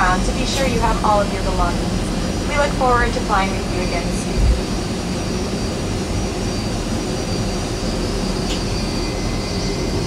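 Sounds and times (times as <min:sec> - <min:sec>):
jet engine and cabin noise: 0:00.0 - 0:10.0.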